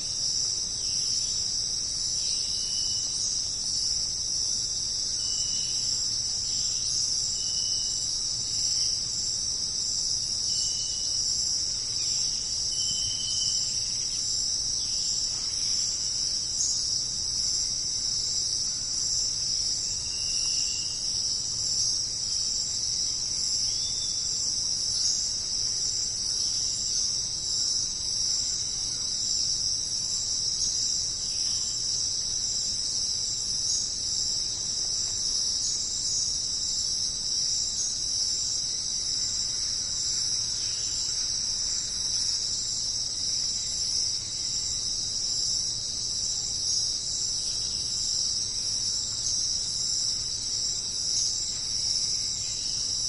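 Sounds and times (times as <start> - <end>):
high insect chirps: 0.0 - 53.0.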